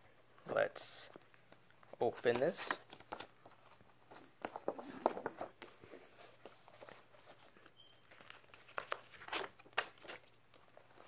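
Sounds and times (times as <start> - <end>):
paper rustling: 1.5 - 11.0.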